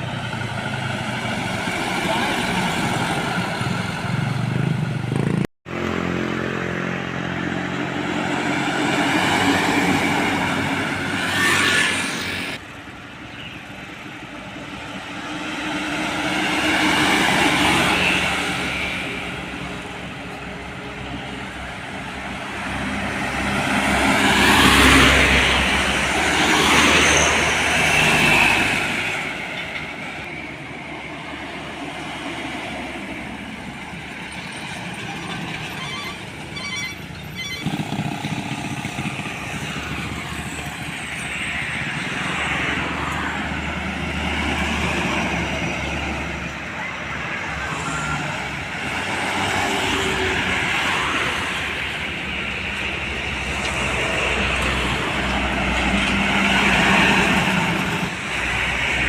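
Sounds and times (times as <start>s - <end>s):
heavy vehicles passing: 0.0s - 59.0s.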